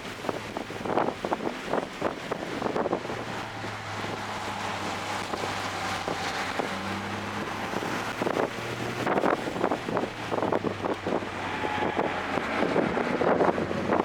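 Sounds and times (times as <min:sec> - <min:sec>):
road noise: 0:00.0 - 0:14.0
wind noise: 0:00.0 - 0:14.0
car engine running: 0:00.5 - 0:14.0.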